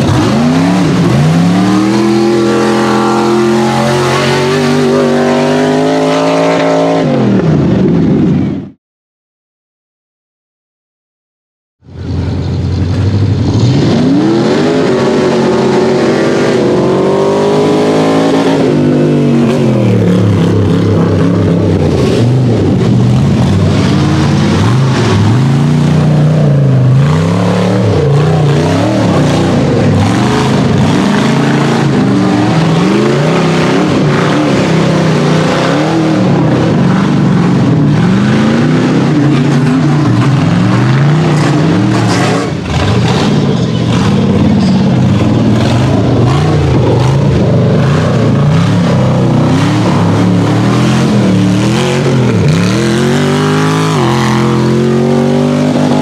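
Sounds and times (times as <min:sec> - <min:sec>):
buggy engine revving: 0:00.0 - 0:08.6, 0:11.9 - 0:56.0.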